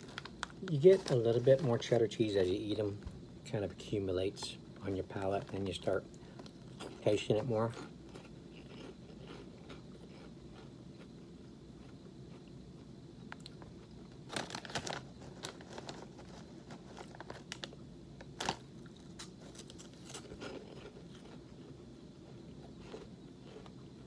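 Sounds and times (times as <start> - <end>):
crunching cheese puffs: 0.0 - 24.0.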